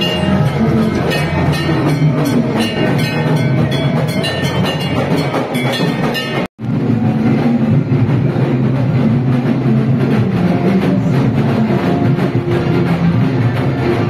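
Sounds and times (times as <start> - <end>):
music with drums and beat: 0.0 - 14.0.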